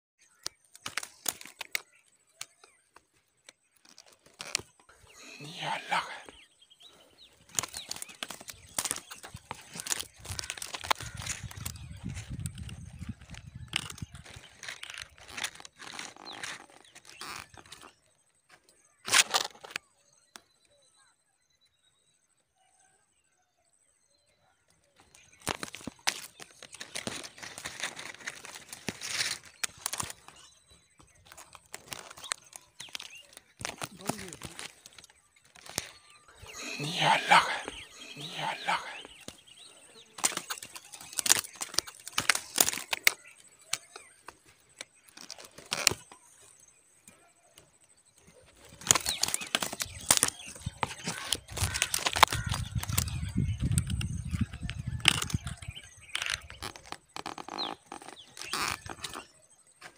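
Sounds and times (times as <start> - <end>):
dry grass and leaves rustling: 0.2 - 6.3, 6.9 - 18.0, 25.0 - 47.1, 48.2 - 59.4.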